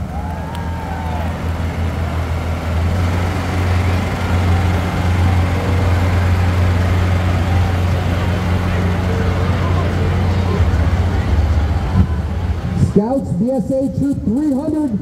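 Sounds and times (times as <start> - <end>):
street and crowd noise: 0.0 - 15.0
vehicle engine droning: 0.0 - 15.0.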